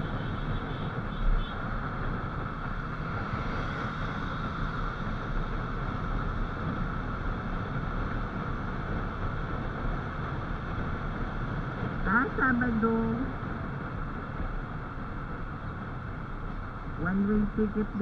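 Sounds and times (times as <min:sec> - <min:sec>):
road noise: 0:00.0 - 0:18.0
wind rushing over microphone: 0:00.0 - 0:18.0.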